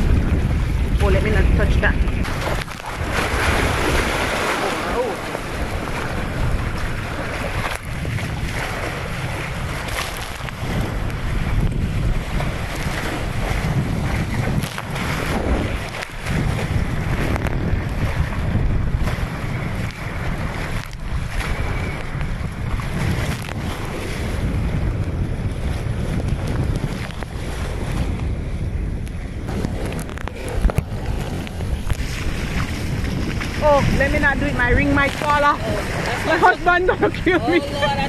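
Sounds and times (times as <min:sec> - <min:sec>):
sea water splashing along hull: 0:00.0 - 0:38.0
wind buffeting microphone: 0:00.0 - 0:38.0.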